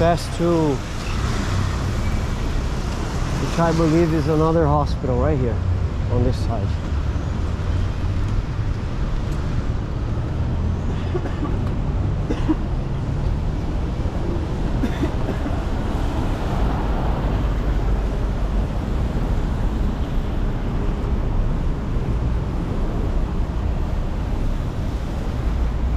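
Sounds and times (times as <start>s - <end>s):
rumble of passing vehicles: 0.0s - 25.9s.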